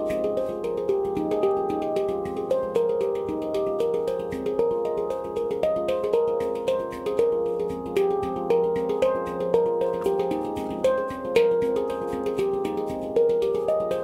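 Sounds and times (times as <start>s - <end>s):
handpan melody: 0.0s - 14.0s.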